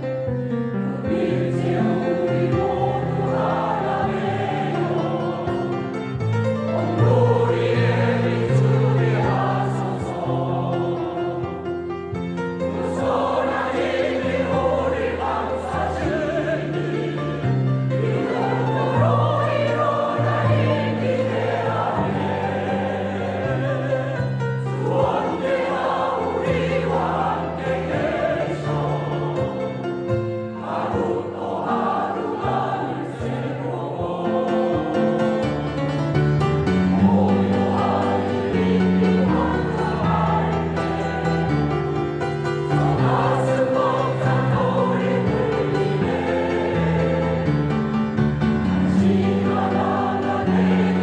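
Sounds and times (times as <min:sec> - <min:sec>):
choir singing a hymn: 0:00.0 - 0:51.0.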